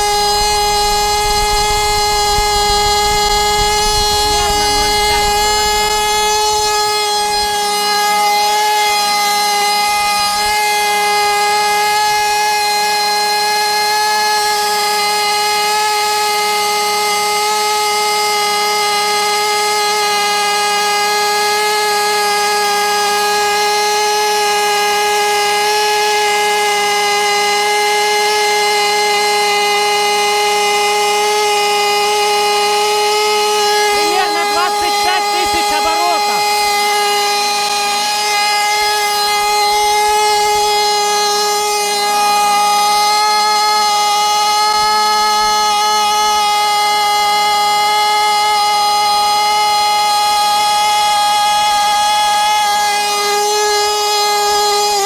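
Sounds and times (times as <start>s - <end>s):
model engine high-pitched whine: 0.0s - 55.0s.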